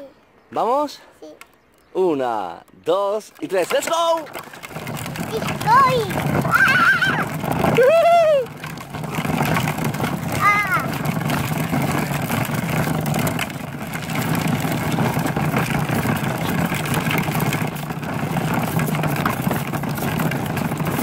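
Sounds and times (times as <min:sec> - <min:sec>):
plastic wheels rumbling on bricks: 0:02.0 - 0:21.0.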